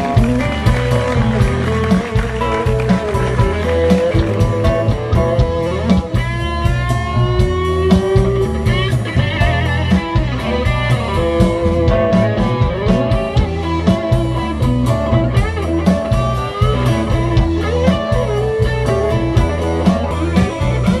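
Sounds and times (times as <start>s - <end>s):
bass guitar: 0.0s - 21.0s
electric guitar sliding lead notes: 0.0s - 21.0s
steady drum hits: 0.0s - 21.0s.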